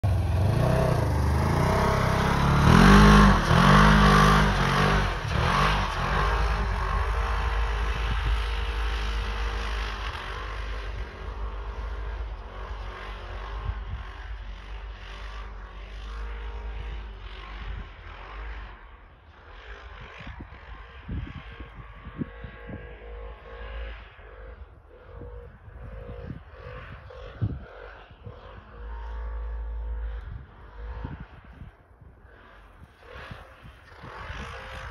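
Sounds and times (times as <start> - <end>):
utility vehicle engine revving: 0.0 - 18.8, 21.1 - 34.9.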